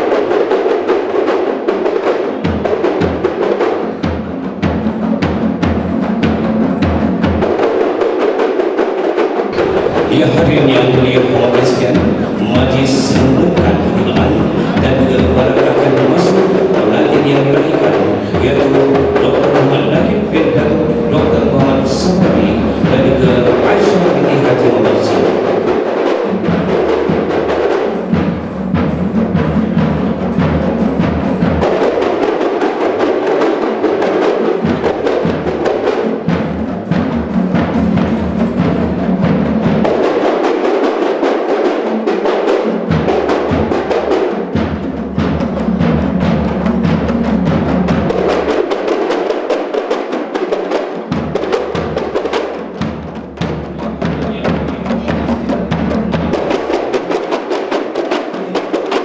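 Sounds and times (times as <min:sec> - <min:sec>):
drum percussion music: 0:00.0 - 0:59.0.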